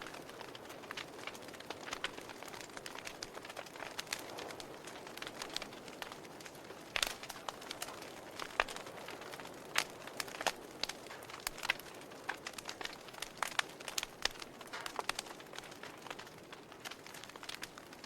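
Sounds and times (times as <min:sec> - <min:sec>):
fire popping: 0:00.0 - 0:18.0
soft steady hiss: 0:00.0 - 0:18.0
wood fire crackling: 0:00.0 - 0:18.0.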